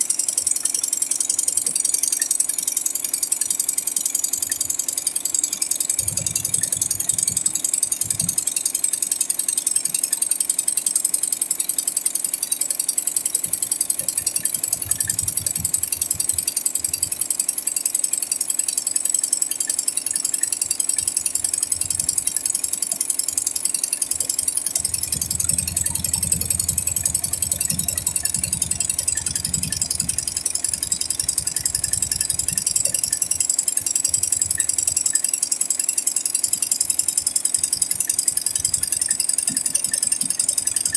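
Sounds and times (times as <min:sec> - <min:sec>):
embroidery machine needle clatter: 0:00.0 - 0:40.9.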